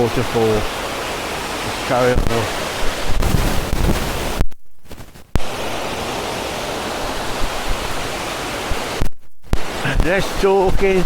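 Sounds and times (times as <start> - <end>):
waterfall rushing: 0.0 - 4.4, 5.4 - 9.0, 9.6 - 11.0.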